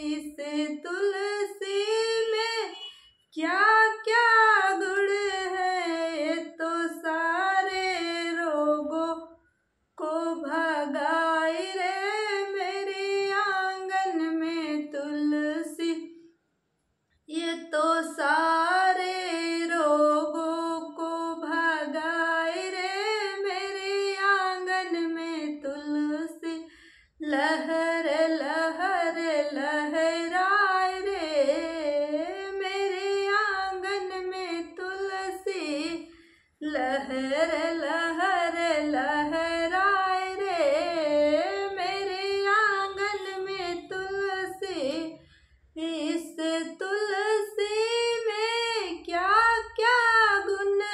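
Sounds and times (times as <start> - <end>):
woman singing unaccompanied: 0.0 - 9.3, 10.0 - 16.1, 17.3 - 45.2, 45.8 - 50.9.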